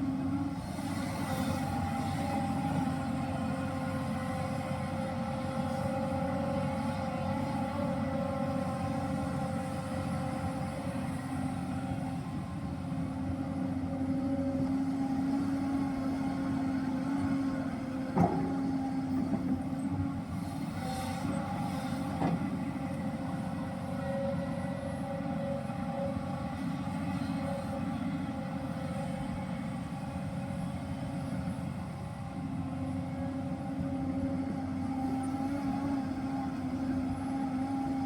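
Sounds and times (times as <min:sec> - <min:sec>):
excavator diesel engine drone: 0:00.0 - 0:38.0.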